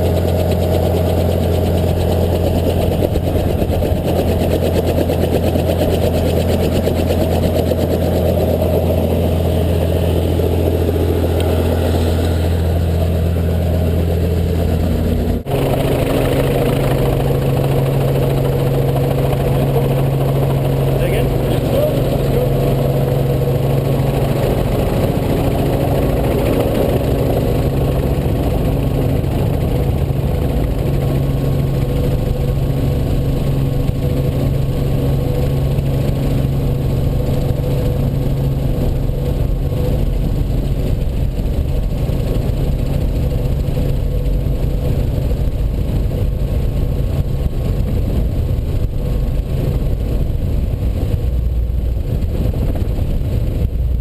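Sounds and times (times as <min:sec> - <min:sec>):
helicopter engine and rotors drone: 0:00.0 - 0:54.0.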